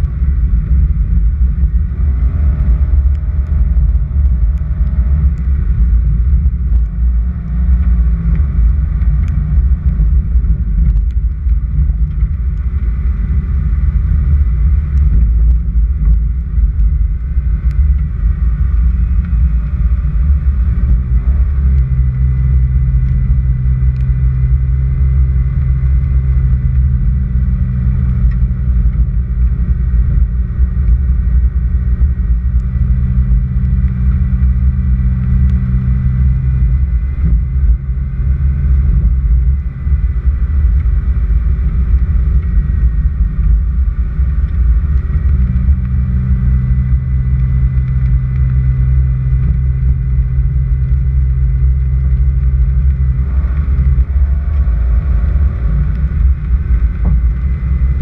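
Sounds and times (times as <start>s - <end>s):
tyre noise on dirt road: 0.0s - 58.0s
vehicle engine running: 0.0s - 58.0s.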